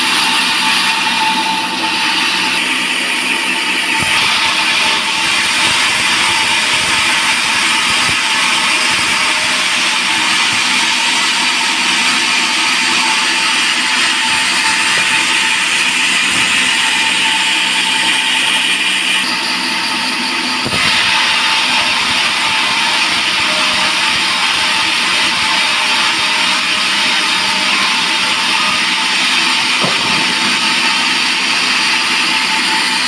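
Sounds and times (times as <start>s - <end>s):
band saw cutting log: 0.0s - 33.0s.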